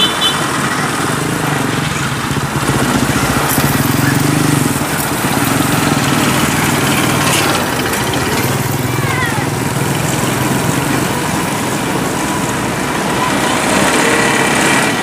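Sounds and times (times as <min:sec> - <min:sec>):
diesel engines running: 0:00.0 - 0:15.0
motorbike passing: 0:00.0 - 0:15.0.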